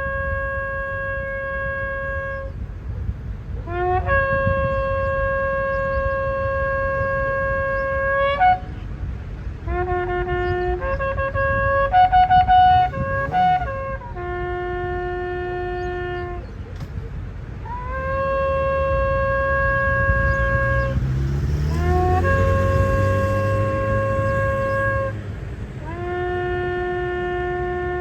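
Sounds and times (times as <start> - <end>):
shofar blasts: 0.0 - 2.7, 3.6 - 8.9, 9.6 - 16.8, 17.6 - 28.0.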